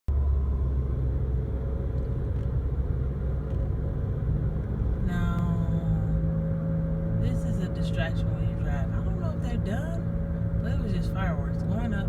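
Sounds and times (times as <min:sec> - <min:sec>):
car engine and tyre rumble: 0:00.1 - 0:12.0.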